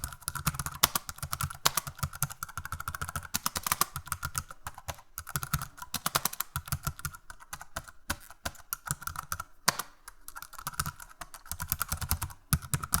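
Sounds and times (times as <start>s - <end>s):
typing on computer keyboard: 0.0s - 13.0s.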